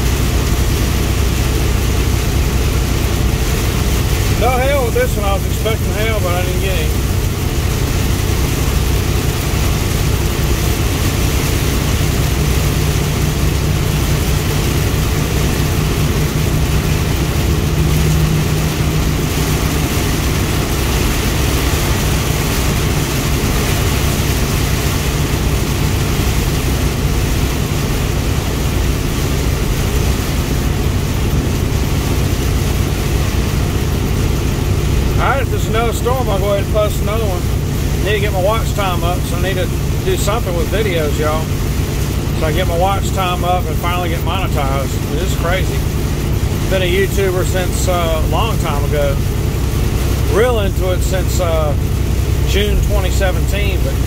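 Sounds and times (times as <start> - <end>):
rain hissing on car: 0.0 - 54.0
road and engine rumble: 0.0 - 54.0.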